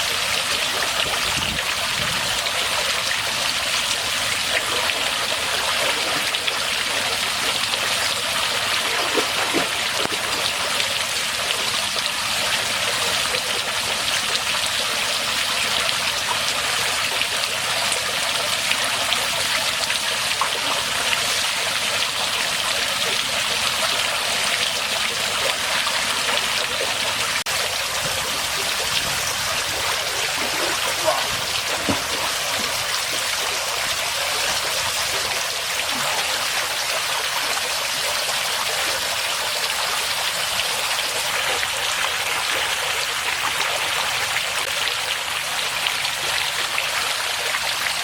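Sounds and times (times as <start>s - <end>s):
waterfall splashing into pool: 0.0s - 48.0s.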